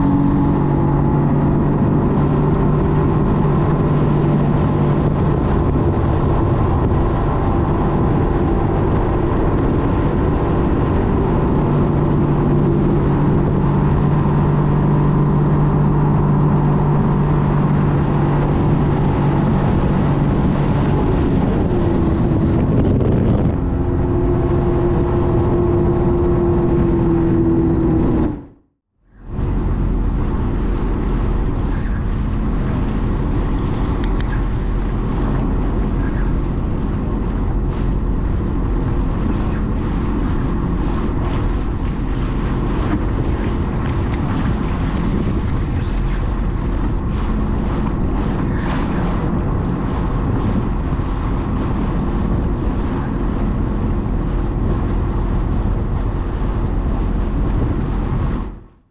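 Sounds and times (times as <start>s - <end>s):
water splashing around hull: 0.0s - 28.6s, 29.2s - 58.9s
watercraft engine running: 0.0s - 58.9s
wind on microphone: 0.0s - 58.9s.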